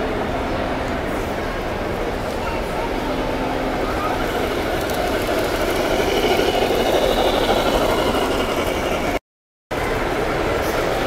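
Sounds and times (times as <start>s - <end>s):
model steam train rumbling on track: 0.0s - 9.2s, 9.8s - 11.0s.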